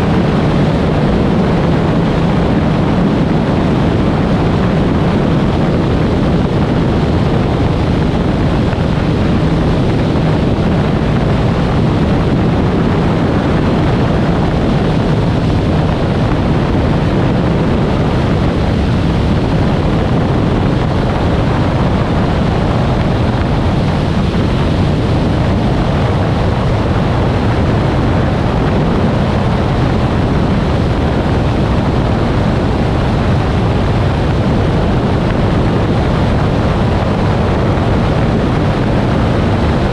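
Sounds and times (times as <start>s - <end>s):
aircraft engine and propeller: 0.0s - 39.9s
wind rush on microphone: 0.0s - 39.9s.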